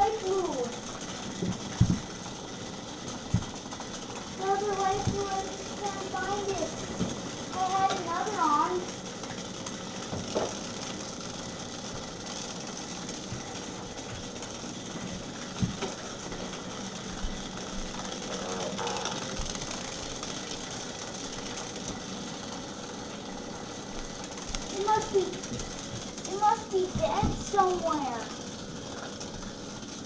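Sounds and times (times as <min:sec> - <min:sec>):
vibrating toy bugs buzzing: 0:00.0 - 0:30.0.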